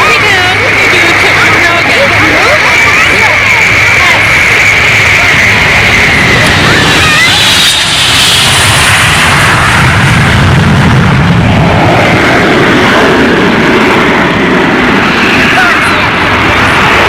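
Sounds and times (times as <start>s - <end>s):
loud jet engine roar: 0.0s - 17.0s.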